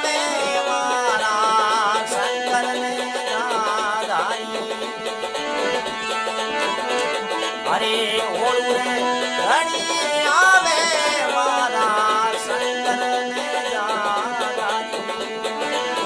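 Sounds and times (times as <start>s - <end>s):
man singing devotional song: 0.0s - 6.5s, 7.2s - 16.0s
instrumental accompaniment: 0.0s - 16.0s.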